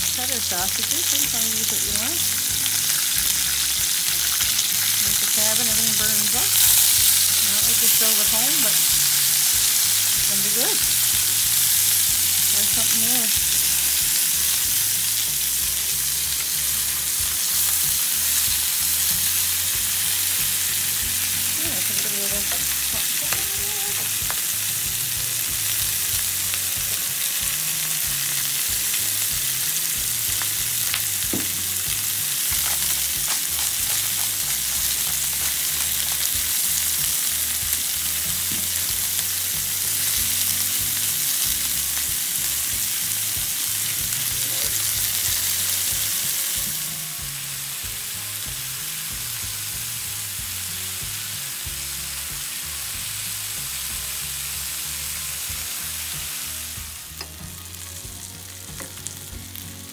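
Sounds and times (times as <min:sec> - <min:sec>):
food sizzling in a frying pan: 0:00.0 - 0:59.9.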